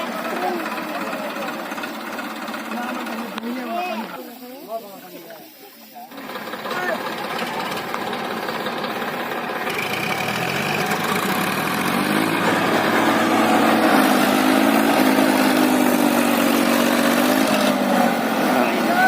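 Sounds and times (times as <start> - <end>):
tractor diesel engine revving: 0.0 - 4.3, 6.1 - 19.0.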